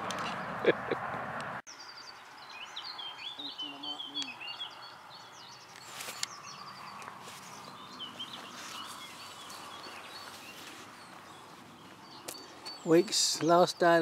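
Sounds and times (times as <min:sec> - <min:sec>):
faint outdoor background: 0:00.0 - 0:14.0
birds chirping and singing: 0:01.7 - 0:14.0.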